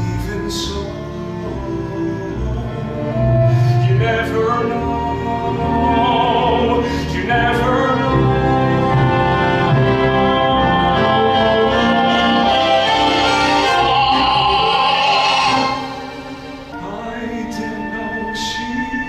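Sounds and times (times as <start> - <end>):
operatic-style singing: 0.0 - 19.0
pit orchestra playing: 0.0 - 19.0.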